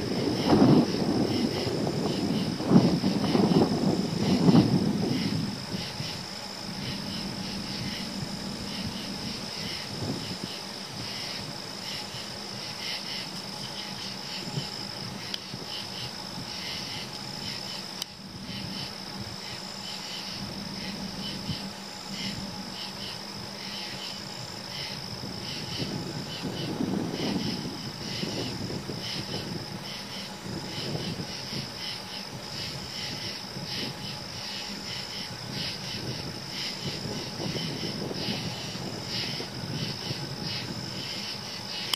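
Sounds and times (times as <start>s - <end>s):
crickets trilling: 0.0s - 41.9s
insects chirping: 0.0s - 41.9s.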